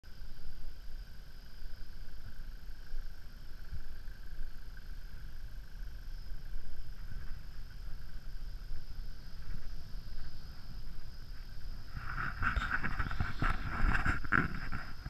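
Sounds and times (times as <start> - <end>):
insect chorus buzzing: 0.0 - 15.0
low rumble: 0.1 - 15.0.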